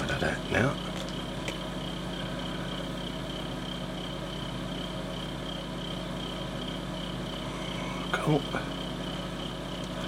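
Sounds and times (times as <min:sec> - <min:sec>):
machine hum: 0:00.0 - 0:10.0
thin high whine: 0:00.0 - 0:10.0.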